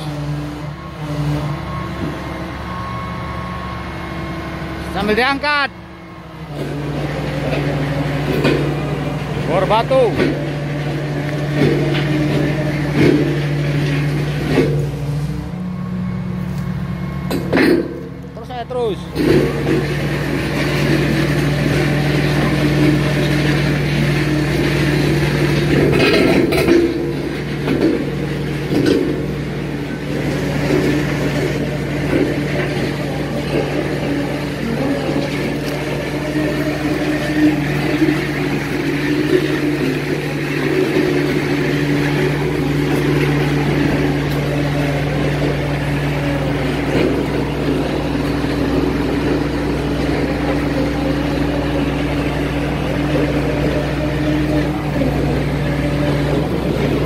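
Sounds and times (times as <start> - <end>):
machine engine and hydraulics: 0.0 - 57.0.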